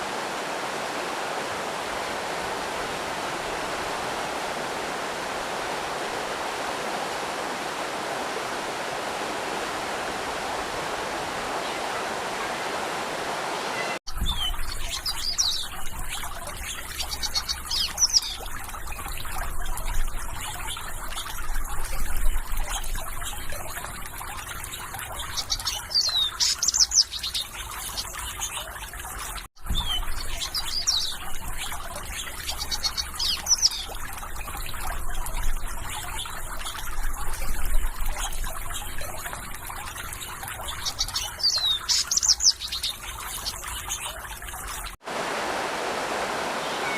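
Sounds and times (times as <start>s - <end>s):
rushing water: 0.0s - 46.9s
trickling water: 0.0s - 46.9s.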